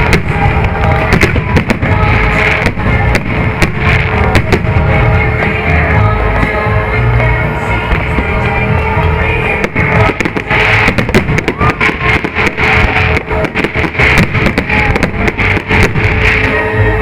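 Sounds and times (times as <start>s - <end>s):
firework cracks and bangs: 0.0s - 7.0s, 7.6s - 17.0s
loud guitar-led music: 0.0s - 17.0s.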